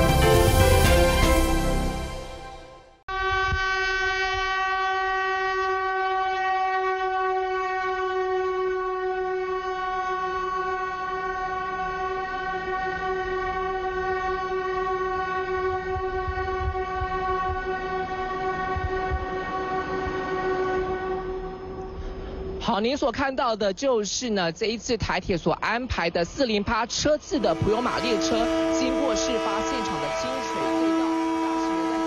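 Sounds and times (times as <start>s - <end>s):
train horn long blast: 0.0s - 22.6s, 27.4s - 32.0s.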